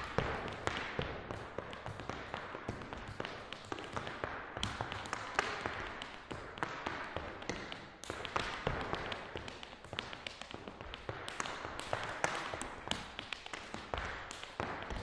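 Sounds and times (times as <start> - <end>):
hard shoes tapping on floor: 0.0 - 15.0.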